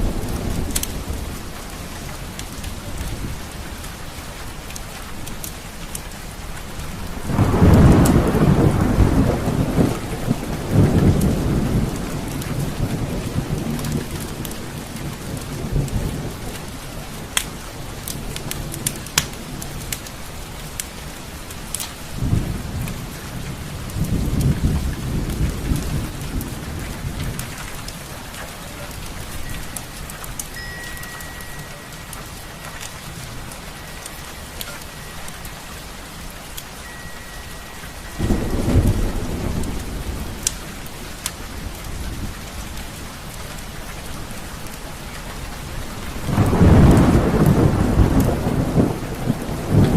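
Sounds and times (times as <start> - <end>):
thunder rumbling: 0.0 - 4.4, 6.3 - 20.0, 20.6 - 49.9
steady rain: 0.0 - 49.9.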